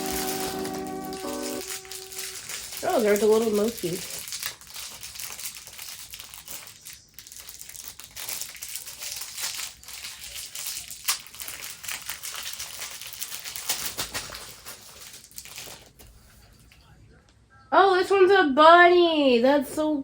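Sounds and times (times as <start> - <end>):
plastic wrapping crinkling: 0.0 - 16.7.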